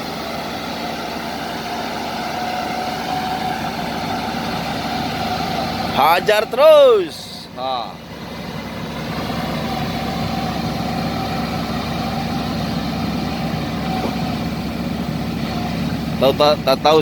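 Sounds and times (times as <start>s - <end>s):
bulldozer diesel engine under load: 0.0s - 17.0s.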